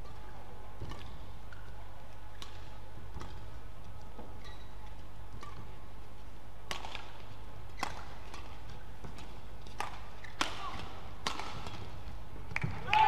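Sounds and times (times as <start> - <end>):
rackets hitting shuttlecock: 0.0 - 5.8, 6.6 - 13.0.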